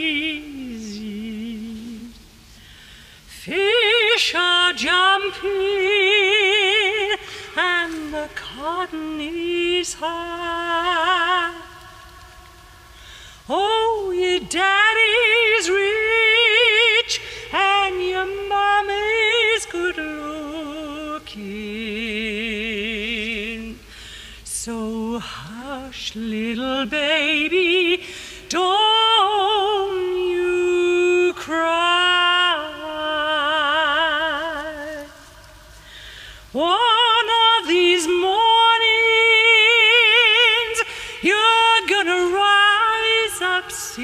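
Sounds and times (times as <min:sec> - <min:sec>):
woman singing with vibrato: 0:00.0 - 0:02.5, 0:03.2 - 0:35.8, 0:36.4 - 0:44.0.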